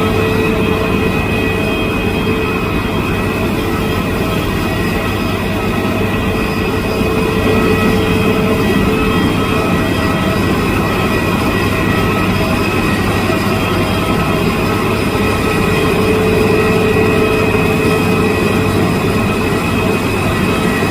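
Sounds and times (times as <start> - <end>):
jet engines rumbling and whining: 0.0 - 20.9.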